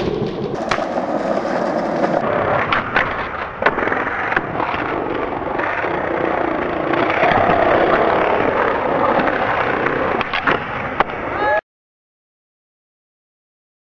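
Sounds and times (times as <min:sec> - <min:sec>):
skateboard clacks: 0:00.0 - 0:11.4
skateboard wheels rolling on concrete: 0:00.0 - 0:11.6.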